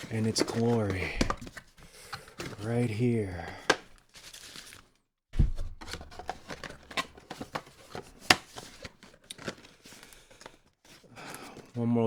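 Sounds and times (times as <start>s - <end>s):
packaging rustling and clicking: 0.0s - 5.0s, 5.6s - 11.8s.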